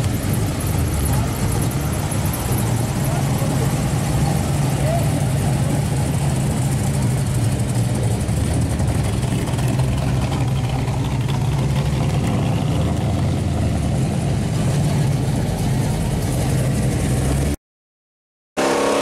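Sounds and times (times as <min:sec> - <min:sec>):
car engines idling: 0:00.0 - 0:17.6.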